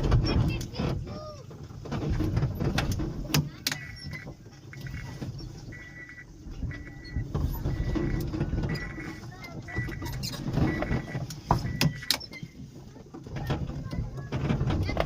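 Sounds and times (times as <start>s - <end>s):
auto-rickshaw engine and road rumble: 0.0s - 15.0s
body knocks and rattles: 0.0s - 15.0s.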